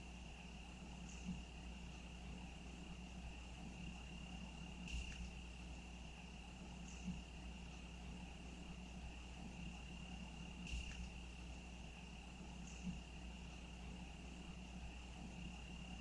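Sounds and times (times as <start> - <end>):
crickets trilling: 0.0 - 16.0
low steady hum: 0.0 - 16.0.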